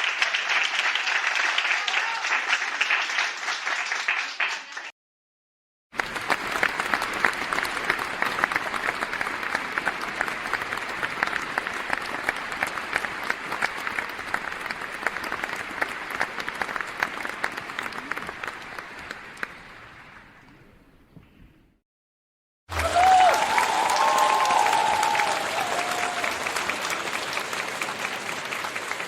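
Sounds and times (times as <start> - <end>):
audience applauding: 0.0 - 4.9, 6.0 - 20.0, 22.7 - 29.0.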